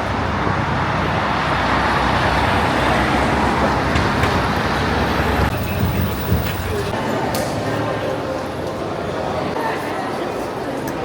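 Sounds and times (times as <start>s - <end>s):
road traffic noise: 0.0s - 9.6s.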